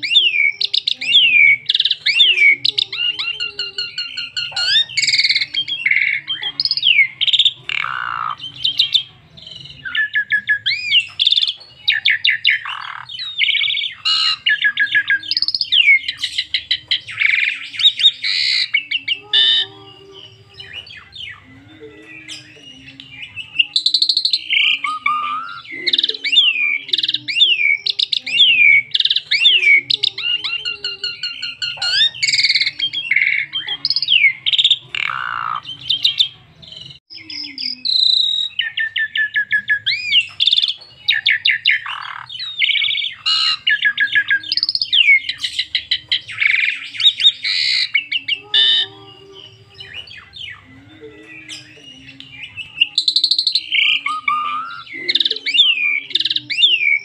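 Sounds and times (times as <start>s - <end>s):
bird singing whistles and trills: 0.0s - 19.7s, 20.6s - 57.0s.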